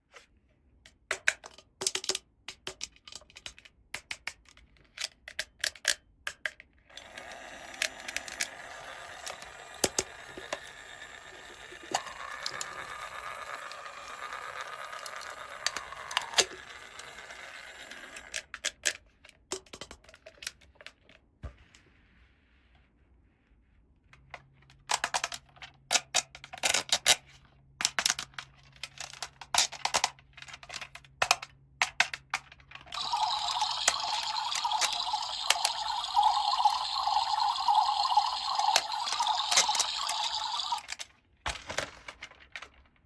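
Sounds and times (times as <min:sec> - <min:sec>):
plastic toy pieces clicking: 0:01.1 - 0:20.7, 0:24.9 - 0:27.2, 0:27.8 - 0:42.9.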